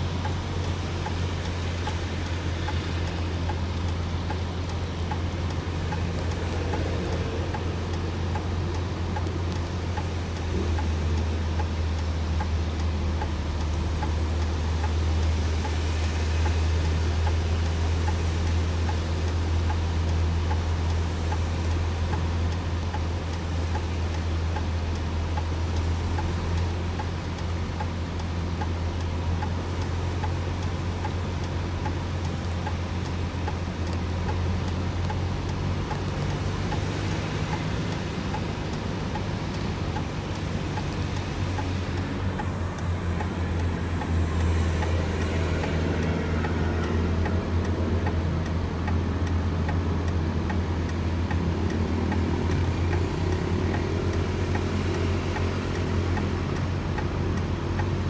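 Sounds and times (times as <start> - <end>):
vehicle engine humming: 0.0 - 58.0
light regular ticking: 0.1 - 58.0.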